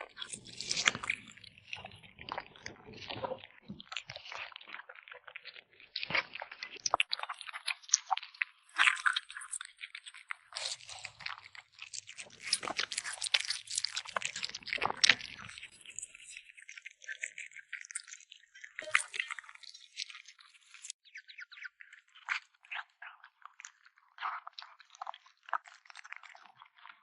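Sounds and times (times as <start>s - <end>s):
kitten chewing and crunching meat: 0.0s - 27.0s.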